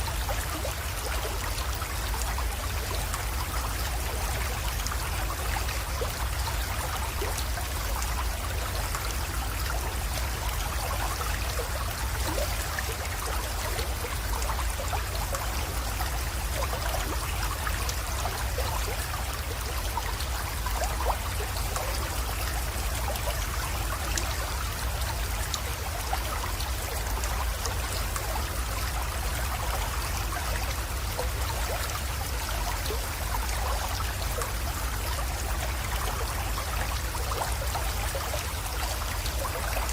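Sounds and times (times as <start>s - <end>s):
creek trickling and splashing: 0.0s - 39.9s.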